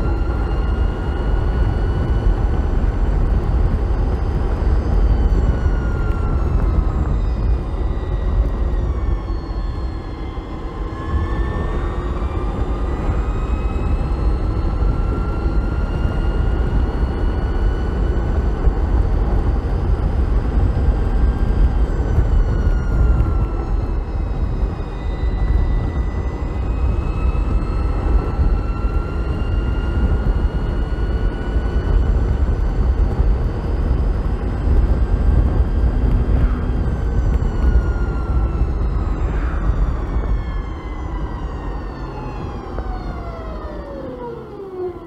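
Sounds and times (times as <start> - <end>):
electric scooter motor whine: 0.0 - 45.0
wind rumble on microphone: 0.0 - 45.0.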